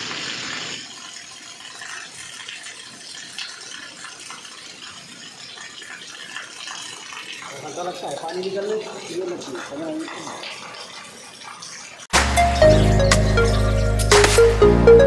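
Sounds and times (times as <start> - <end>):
small water splashes: 0.0 - 12.1
water gushing from a pipe: 0.0 - 13.0.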